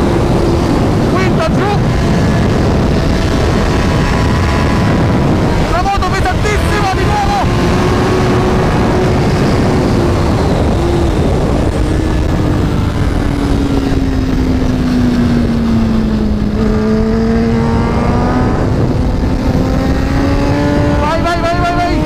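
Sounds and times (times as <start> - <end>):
motorcycle engine at speed: 0.0 - 22.0
wind rush: 0.0 - 22.0.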